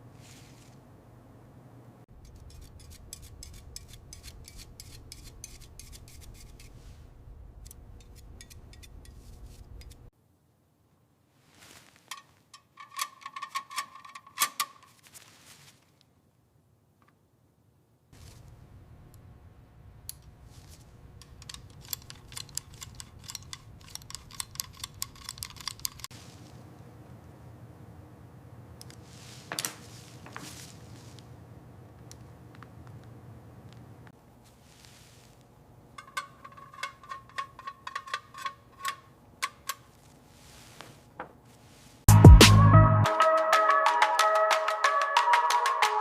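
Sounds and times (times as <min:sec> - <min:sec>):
low steady hum: 0:00.0 - 0:11.2, 0:16.2 - 0:25.3, 0:26.2 - 0:43.1.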